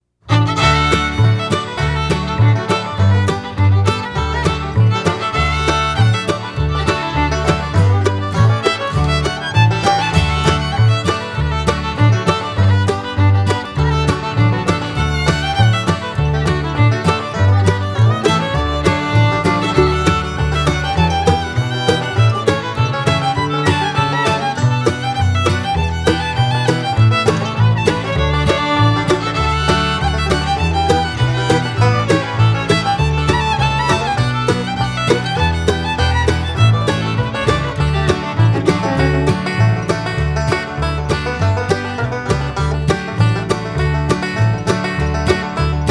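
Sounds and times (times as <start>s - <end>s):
bluegrass music with fiddle: 0.2s - 45.9s.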